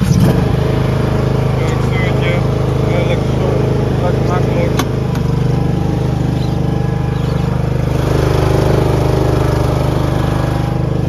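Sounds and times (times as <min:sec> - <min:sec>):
mower engine running: 0:00.0 - 0:11.0.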